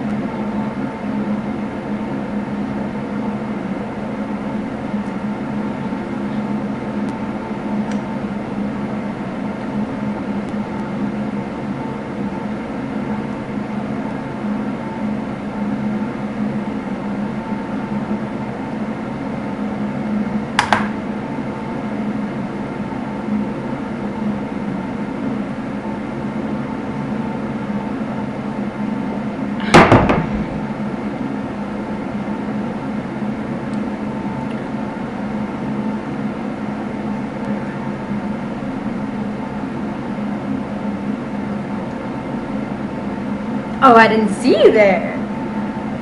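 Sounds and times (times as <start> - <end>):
mechanical hum with held tones: 0.0 - 46.0.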